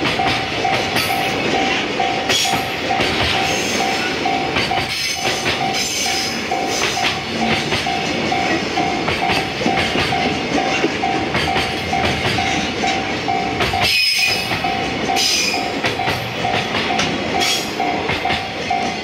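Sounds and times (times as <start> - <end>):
train wheels clattering over joints: 0.0 - 19.0.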